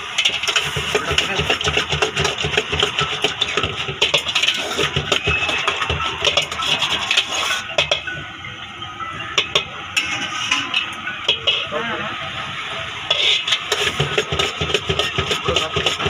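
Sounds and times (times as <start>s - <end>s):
metal ladle scraping a wok: 0.2s - 8.0s, 9.5s - 11.7s, 13.1s - 16.0s.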